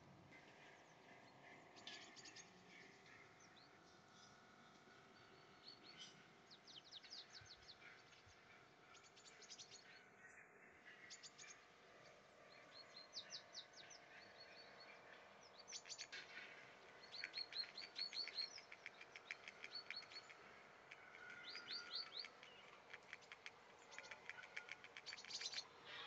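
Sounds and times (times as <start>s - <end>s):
small songbirds chirping: 0.3s - 26.0s.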